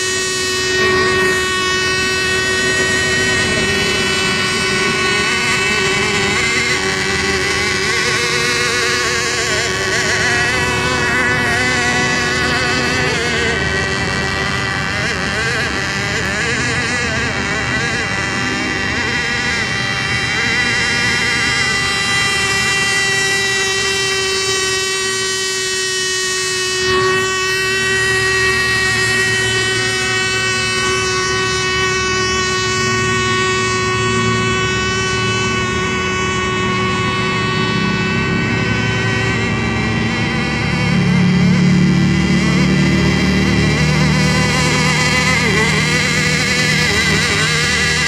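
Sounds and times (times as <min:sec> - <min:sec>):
model boat engine buzzing: 0:00.0 - 0:48.0.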